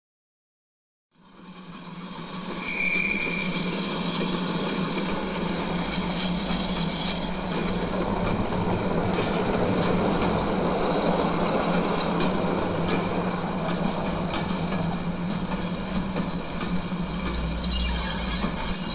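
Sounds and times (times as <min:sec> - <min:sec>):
model train wheels rumbling on rails: 0:01.2 - 0:18.9.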